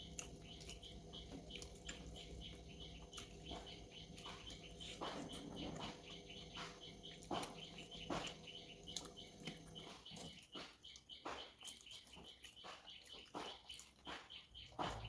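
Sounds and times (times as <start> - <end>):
wet chewing and mouth smacks: 0.0 - 15.0.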